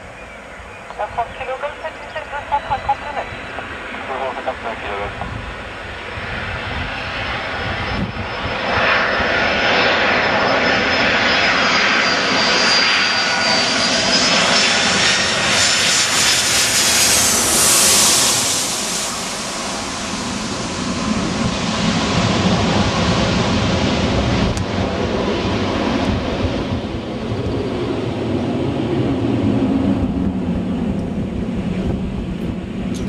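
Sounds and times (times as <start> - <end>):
high jet whine: 0.0 - 33.0
jet plane passing overhead: 0.0 - 33.0.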